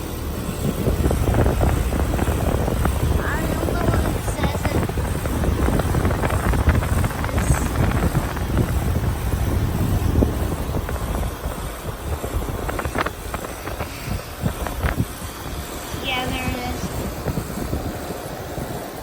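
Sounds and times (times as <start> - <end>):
air conditioner condenser rumbling: 0.0 - 19.0.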